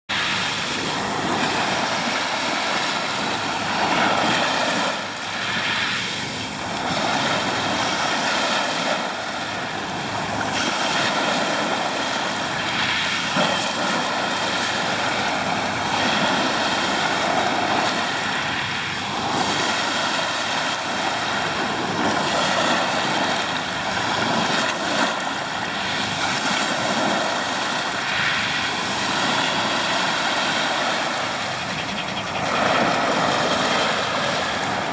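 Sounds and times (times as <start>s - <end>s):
ocean surf: 0.1s - 34.9s.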